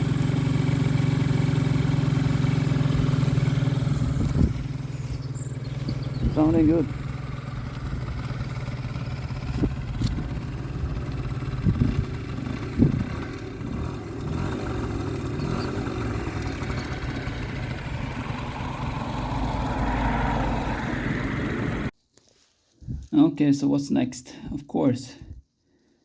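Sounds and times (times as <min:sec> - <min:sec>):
scooter engine idling: 0:00.0 - 0:21.9.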